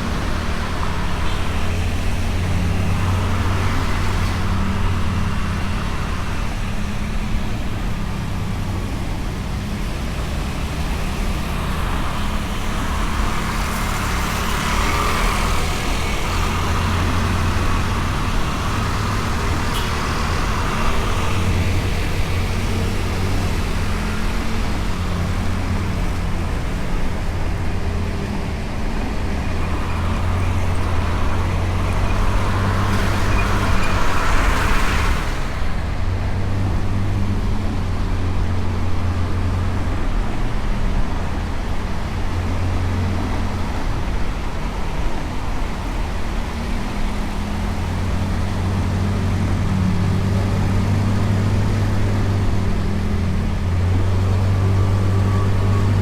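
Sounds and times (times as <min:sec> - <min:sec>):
road and traffic noise: 0:00.0 - 0:56.0.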